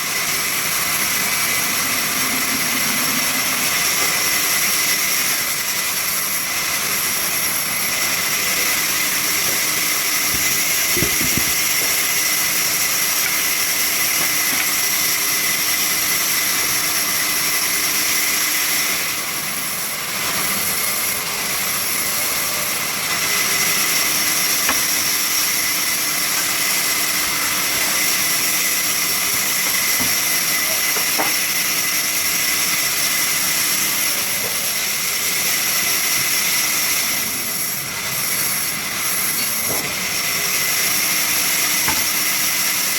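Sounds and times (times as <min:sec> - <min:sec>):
sawmill saw whining: 0:00.0 - 0:42.9.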